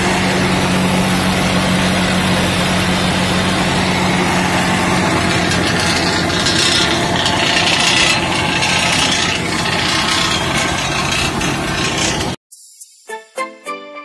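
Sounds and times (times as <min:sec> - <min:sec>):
seeder grinding straw and soil: 0:00.0 - 0:12.4
tractor engine hum: 0:00.0 - 0:12.4.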